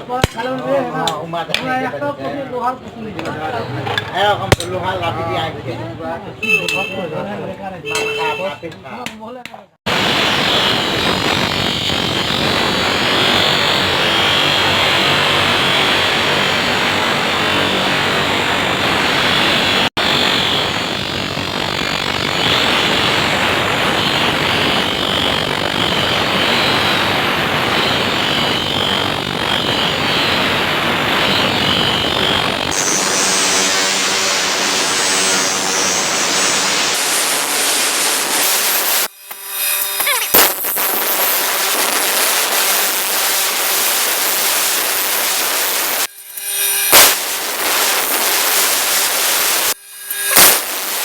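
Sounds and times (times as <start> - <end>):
power tool whining: 10.0 - 51.0.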